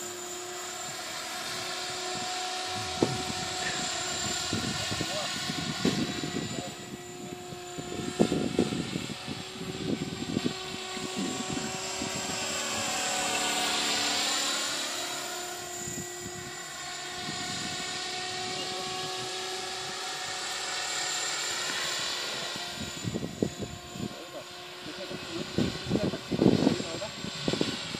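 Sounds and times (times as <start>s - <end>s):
rc helicopter motor whine: 0.0s - 27.9s.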